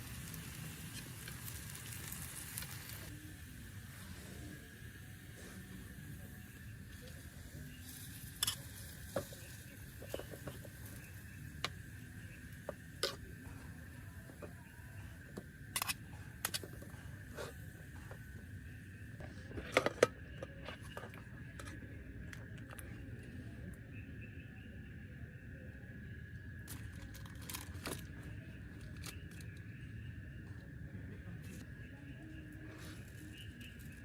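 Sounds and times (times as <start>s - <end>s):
faint high-pitched hum: 0.0s - 34.0s.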